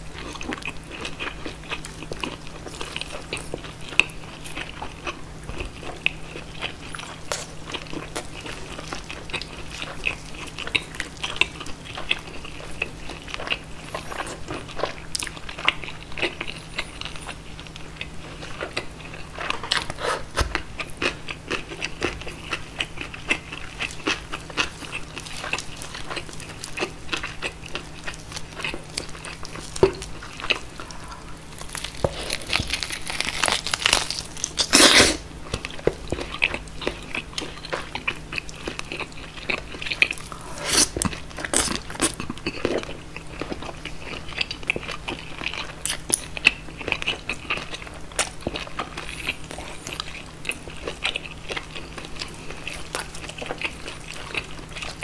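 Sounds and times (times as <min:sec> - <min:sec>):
crunchy chewing of meat: 0:00.0 - 0:55.0.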